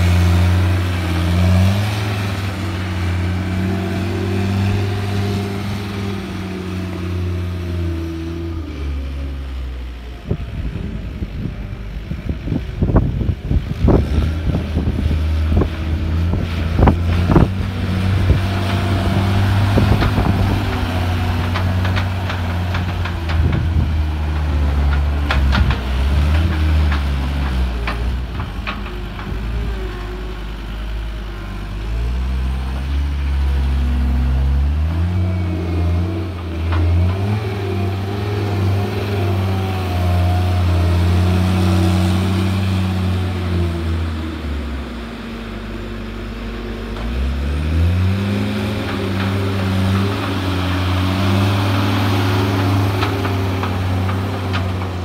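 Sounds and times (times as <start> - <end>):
diesel loader engine revving: 0.0 - 55.0.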